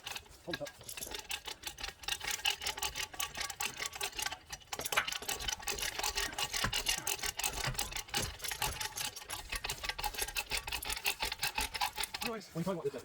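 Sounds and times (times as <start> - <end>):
winch ratchet clicking: 0.0 - 12.5.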